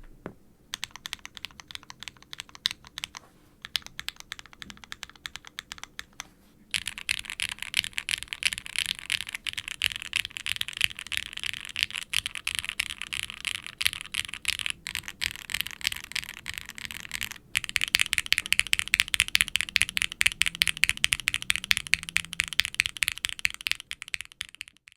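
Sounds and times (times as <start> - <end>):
fast typing on mechanical keyboard: 0.7 - 24.9.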